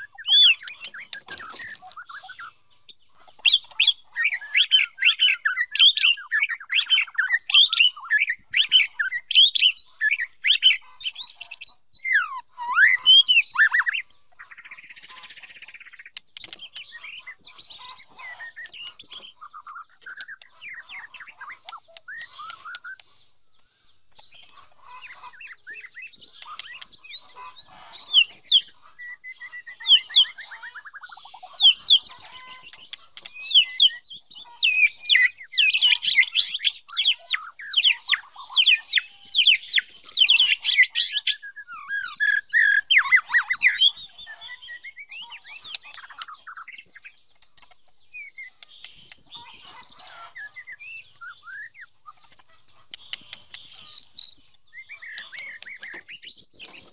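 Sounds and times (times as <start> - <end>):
songbird whistling and trilling: 0.0 - 2.6, 3.2 - 23.2, 24.1 - 56.9.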